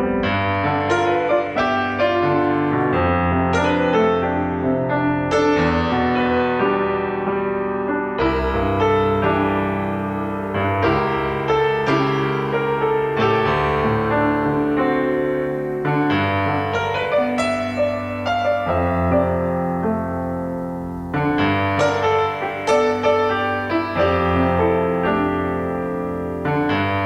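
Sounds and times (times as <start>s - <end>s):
slow solo piano melody: 0.0s - 27.0s.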